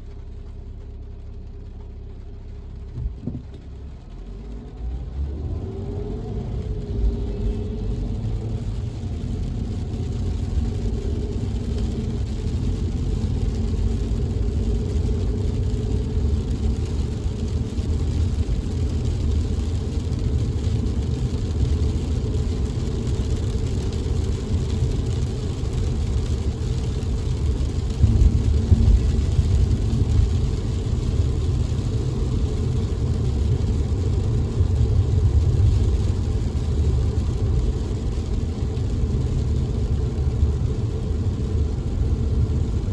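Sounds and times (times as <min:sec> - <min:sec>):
rain and wet tyres hissing: 0:00.0 - 0:42.9
road and engine rumble: 0:00.0 - 0:42.9.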